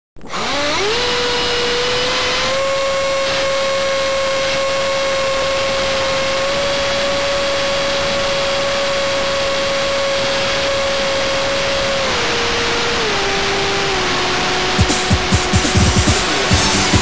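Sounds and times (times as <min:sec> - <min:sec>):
electric motor high whine: 0:00.2 - 0:17.0.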